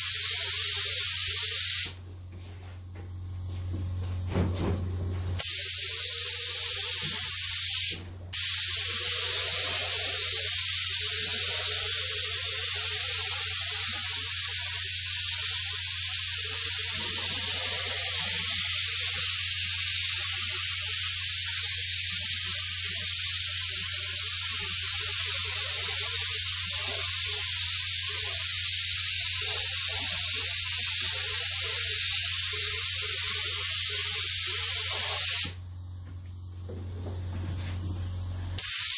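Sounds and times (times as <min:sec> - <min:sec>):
paint spray hissing: 0:00.0 - 0:02.0, 0:05.4 - 0:35.6, 0:38.6 - 0:38.9.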